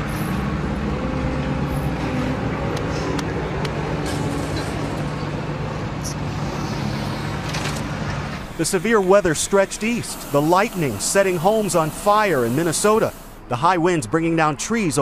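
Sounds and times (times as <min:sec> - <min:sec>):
large engine idling: 0:00.0 - 0:13.5.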